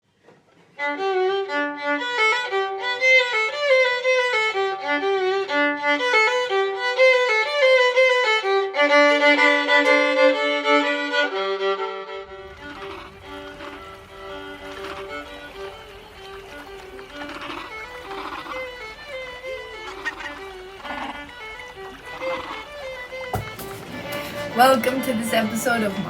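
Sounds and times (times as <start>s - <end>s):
violin playing a quick melody: 0.8s - 26.0s.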